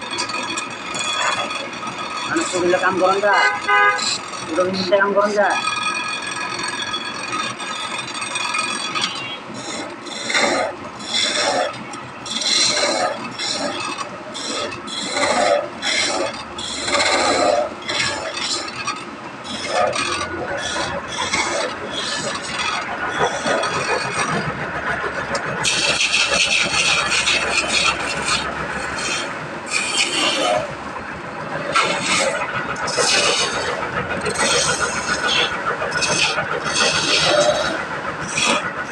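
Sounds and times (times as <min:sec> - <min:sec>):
hand tool scraping wood: 0:00.0 - 0:30.8, 0:31.4 - 0:38.9.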